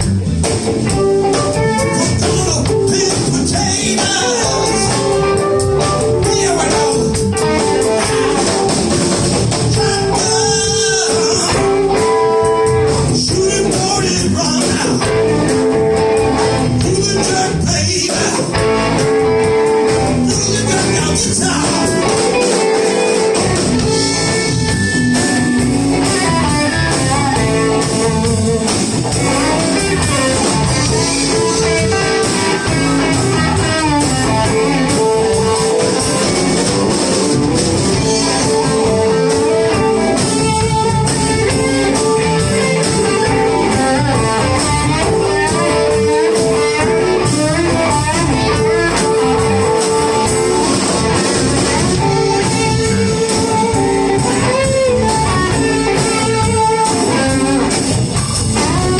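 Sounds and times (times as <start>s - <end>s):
blues band playing: 0.0s - 58.9s
electric guitar lead notes: 0.0s - 58.9s.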